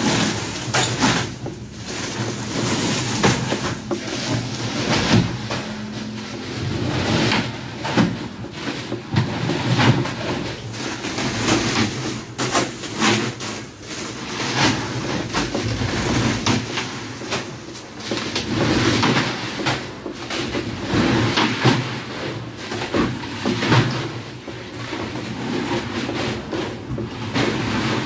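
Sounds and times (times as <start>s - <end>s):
plastic rustling: 0.0s - 28.0s.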